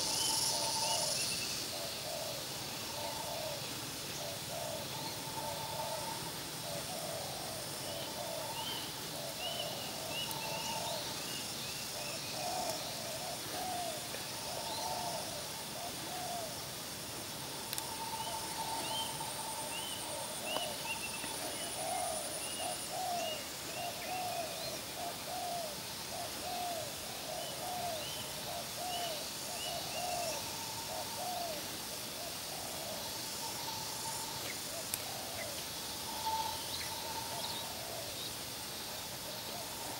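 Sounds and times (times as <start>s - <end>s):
doves cooing: 0.0s - 38.3s.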